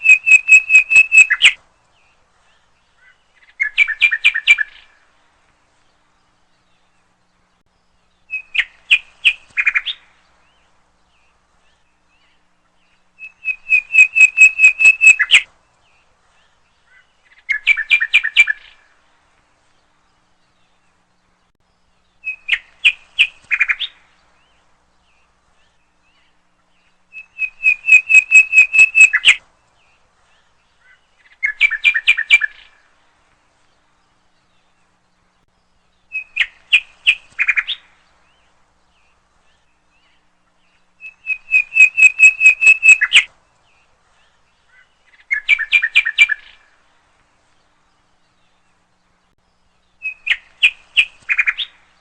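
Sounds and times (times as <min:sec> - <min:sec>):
songbird singing: 0:00.0 - 0:52.0.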